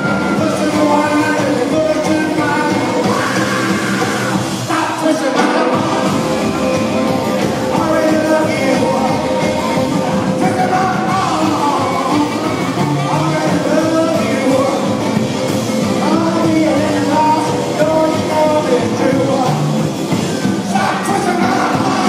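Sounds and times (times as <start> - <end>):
person singing: 0.0 - 19.7, 20.7 - 22.0
rockabilly band playing live: 0.0 - 22.0.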